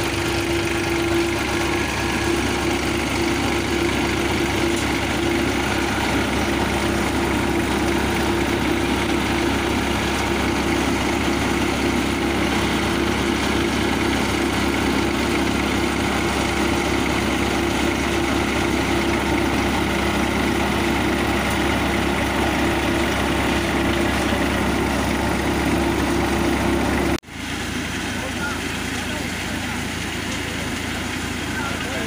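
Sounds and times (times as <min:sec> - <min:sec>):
thresher mechanical hum: 0:00.0 - 0:32.0
tractor engine running: 0:00.0 - 0:32.0.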